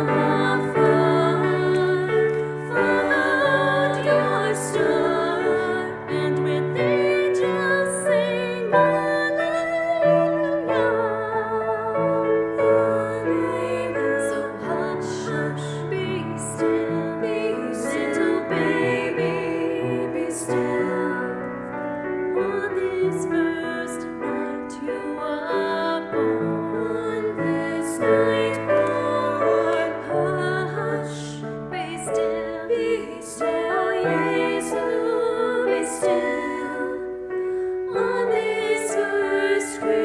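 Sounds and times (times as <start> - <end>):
piano chords: 0.0 - 40.0
vocal trio singing: 0.0 - 40.0.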